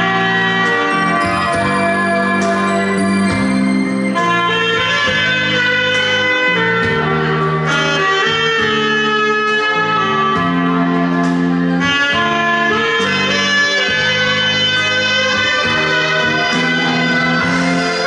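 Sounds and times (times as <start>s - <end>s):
backing track with bass and chords: 0.0s - 18.0s
saxophone playing slow melody: 0.0s - 18.0s.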